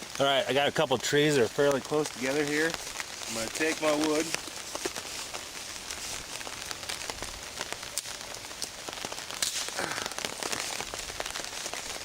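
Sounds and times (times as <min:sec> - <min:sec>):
rain pattering on a tarp: 0:00.0 - 0:12.0.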